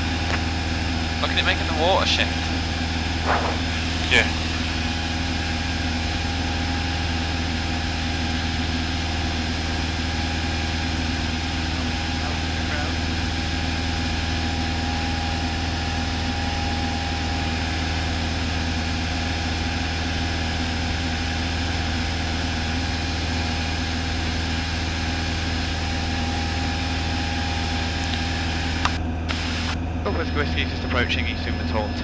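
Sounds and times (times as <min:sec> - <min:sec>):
aircraft engine and propeller drone: 0:00.0 - 0:32.0.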